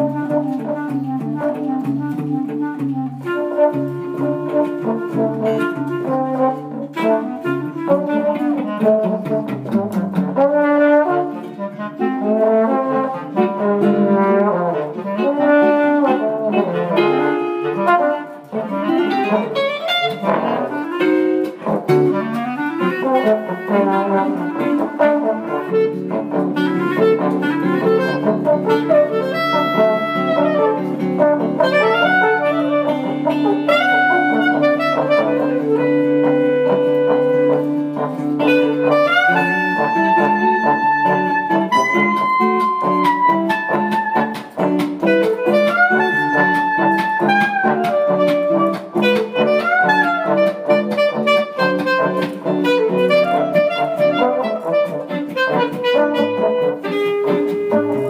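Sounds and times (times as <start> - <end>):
jazz trio playing: 0.0 - 58.0.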